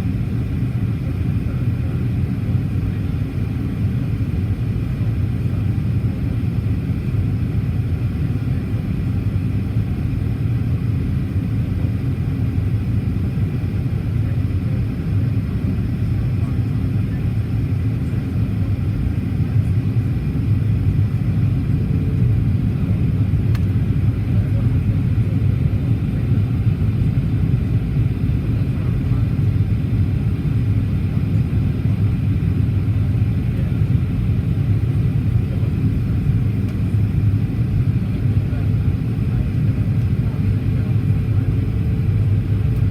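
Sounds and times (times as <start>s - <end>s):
airplane engines rumbling in cabin: 0.0s - 42.9s.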